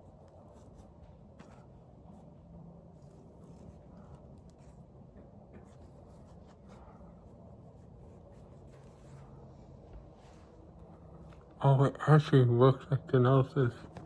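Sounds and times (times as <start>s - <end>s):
hands rustling and rubbing object: 0.0s - 11.6s
low steady hum: 0.0s - 14.0s.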